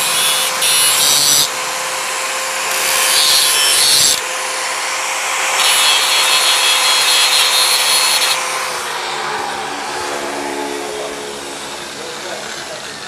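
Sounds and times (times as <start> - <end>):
angle grinder motor whine: 0.0 - 13.0
disc grinding steel: 0.0 - 13.0.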